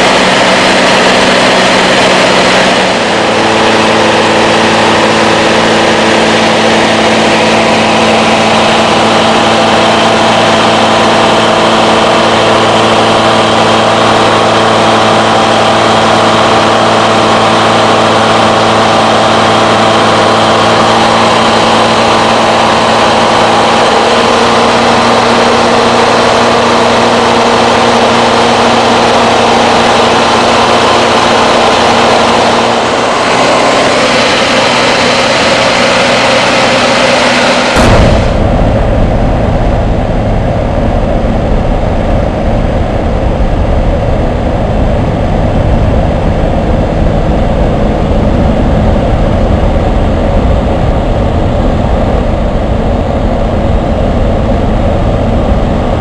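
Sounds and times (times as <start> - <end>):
aircraft engine and propeller droning: 0.0 - 56.0
rush of air over cabin: 0.0 - 56.0.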